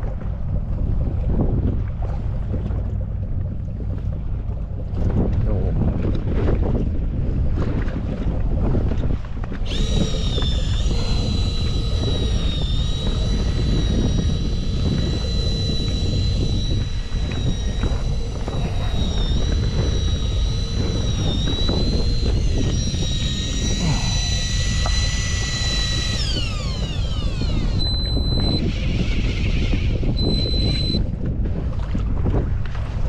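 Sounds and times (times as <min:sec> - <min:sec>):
outboard motor whining: 0:00.0 - 0:33.0.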